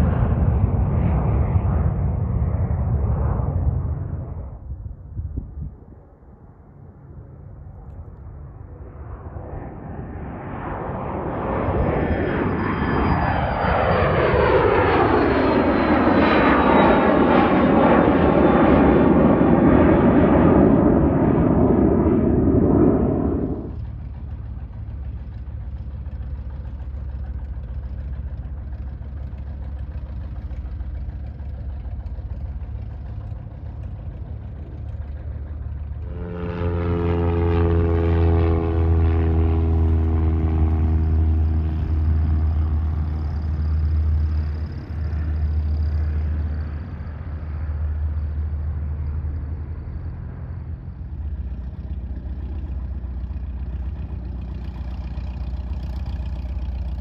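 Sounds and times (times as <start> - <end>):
jet noise: 0.0 - 55.3
low rumble: 0.0 - 57.0
propeller airplane engine droning: 0.0 - 57.0.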